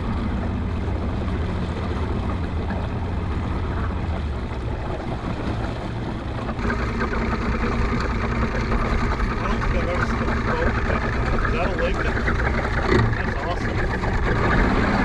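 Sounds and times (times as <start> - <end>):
outboard motor running: 0.0 - 15.0
water noise: 0.0 - 15.0
wind: 0.0 - 15.0.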